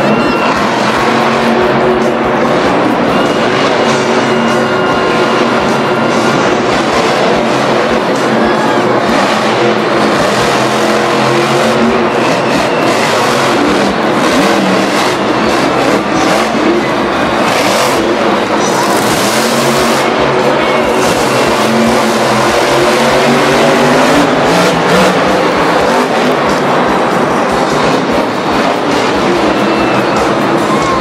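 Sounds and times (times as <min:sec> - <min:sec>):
truck engines revving hard: 0:00.0 - 0:31.0.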